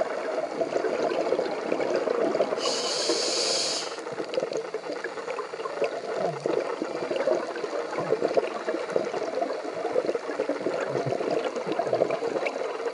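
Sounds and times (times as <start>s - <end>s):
underwater bubbles gurgling: 0.0s - 12.9s.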